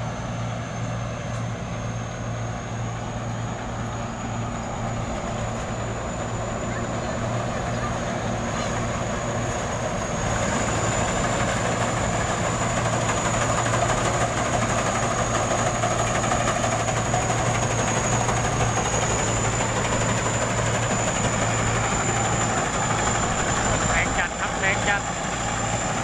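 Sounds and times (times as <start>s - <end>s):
diesel machinery running: 0.0s - 26.0s.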